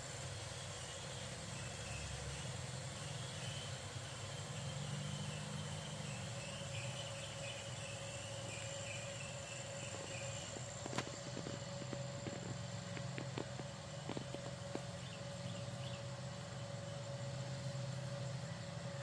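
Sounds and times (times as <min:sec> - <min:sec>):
outdoor hiss and low hum: 0:00.0 - 0:19.0.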